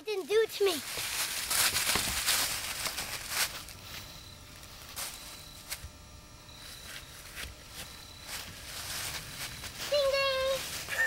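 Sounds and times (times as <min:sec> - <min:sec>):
rustling through dry leaves: 0:00.3 - 0:05.9, 0:06.6 - 0:11.0.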